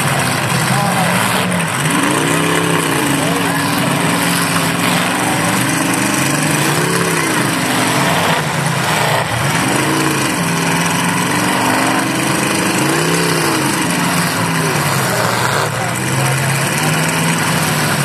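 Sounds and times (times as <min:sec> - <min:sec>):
car engines running: 0:00.0 - 0:18.0
engine revving: 0:00.0 - 0:18.0.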